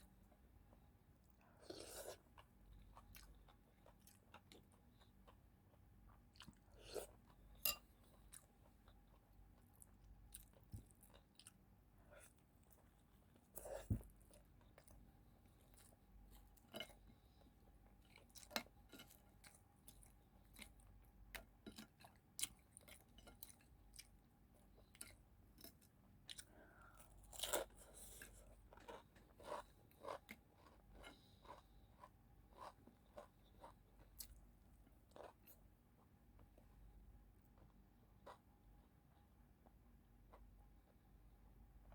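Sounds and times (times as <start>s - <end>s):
person chewing crunchy food: 1.5s - 35.6s.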